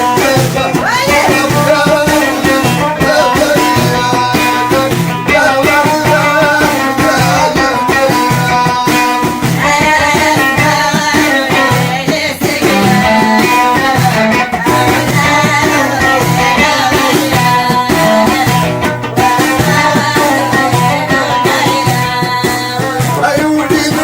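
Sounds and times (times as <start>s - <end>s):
person singing: 0.0s - 24.0s
plucked string instruments: 0.0s - 24.0s.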